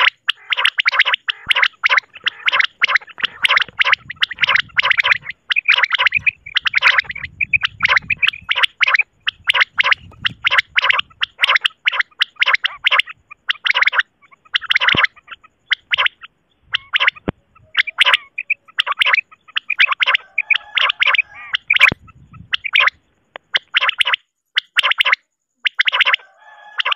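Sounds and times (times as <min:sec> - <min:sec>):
quail calls: 0:00.0 - 0:26.9.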